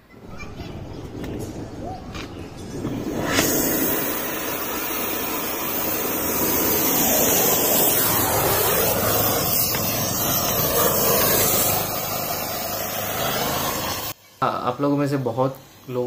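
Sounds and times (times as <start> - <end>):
welding torch flame hissing: 2.3 - 16.0.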